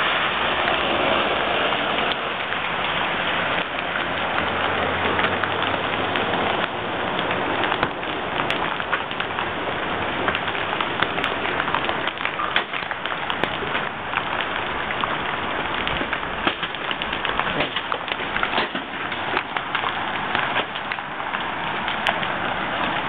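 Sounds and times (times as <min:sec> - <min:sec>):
hail and rain falling: 0:00.0 - 0:23.0
hailstones striking with cracks: 0:00.0 - 0:23.0.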